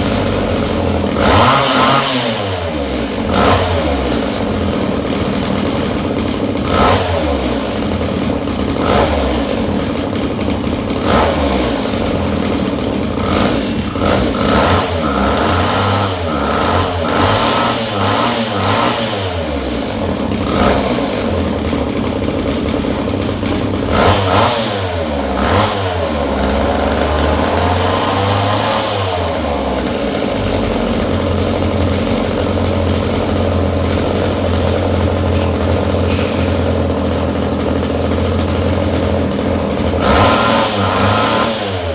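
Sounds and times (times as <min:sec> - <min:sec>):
chainsaw engine idling and revving: 0:00.0 - 0:41.9.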